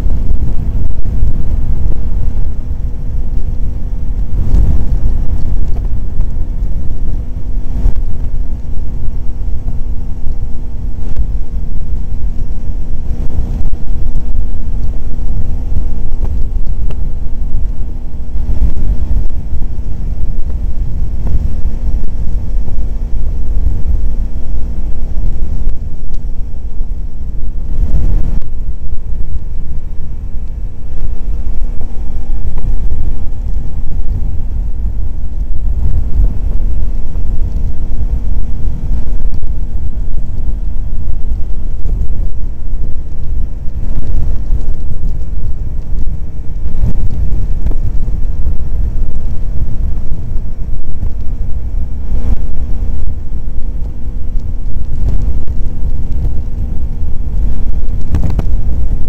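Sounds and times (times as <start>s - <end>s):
motorcycle engine humming: 0.0s - 59.0s
wind buffeting microphone: 0.0s - 59.0s.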